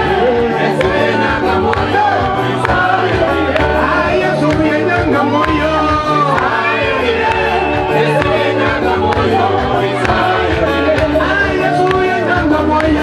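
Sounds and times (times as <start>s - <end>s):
person singing: 0.0s - 13.0s
upbeat music over loudspeaker: 0.0s - 13.0s.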